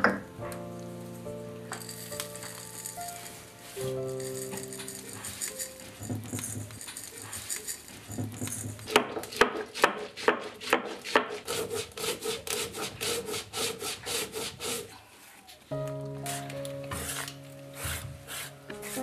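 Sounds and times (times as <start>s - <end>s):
stone roller grating peppercorns: 1.7s - 15.0s, 16.2s - 19.0s.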